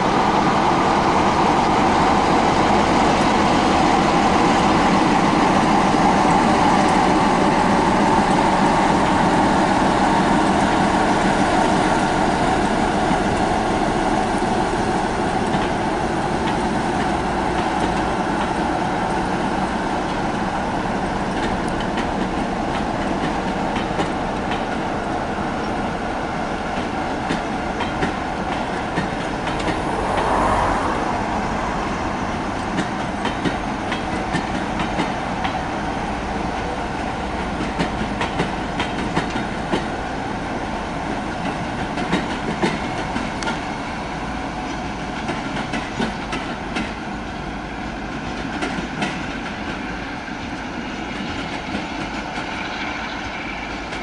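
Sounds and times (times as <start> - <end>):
train wheels clickety-clack: 0.0 - 30.4, 32.3 - 54.0
diesel locomotive engine drone: 0.0 - 54.0.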